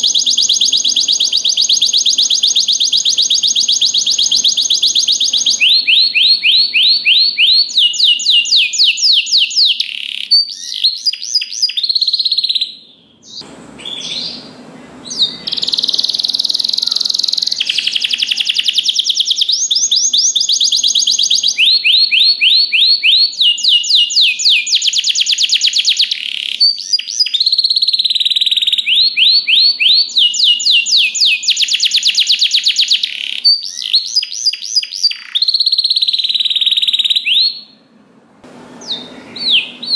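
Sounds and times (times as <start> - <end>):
canary singing trills: 0.0 - 37.8, 38.7 - 39.9.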